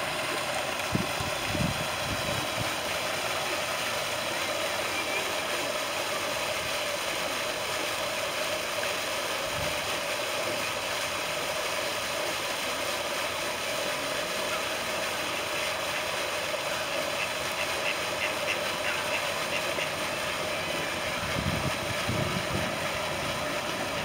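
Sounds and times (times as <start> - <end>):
fountain splashing onto water: 0.0 - 24.0.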